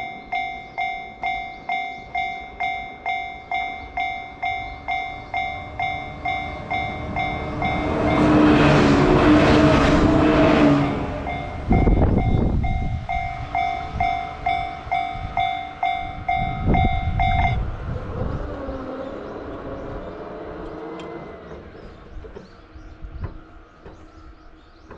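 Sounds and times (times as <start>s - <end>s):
electric train passing: 0.0s - 24.9s.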